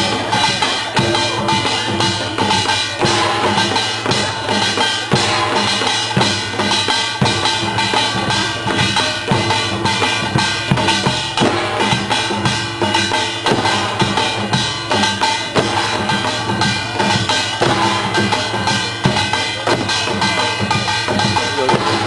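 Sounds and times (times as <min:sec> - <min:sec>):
dense drum strokes: 0:00.0 - 0:22.0
metallic ringing percussion: 0:00.0 - 0:22.0.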